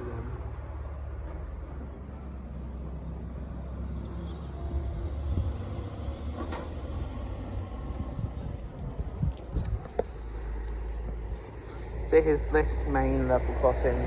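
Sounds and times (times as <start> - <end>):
large vehicle engine rumble: 0.0 - 14.0.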